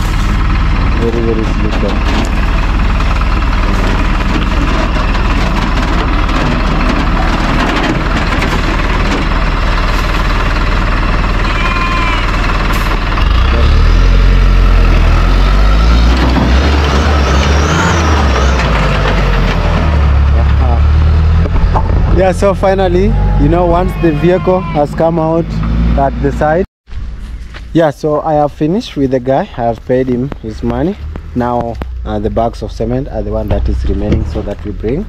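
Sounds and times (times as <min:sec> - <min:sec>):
diesel truck engine under load: 0:00.0 - 0:26.6, 0:28.7 - 0:35.0.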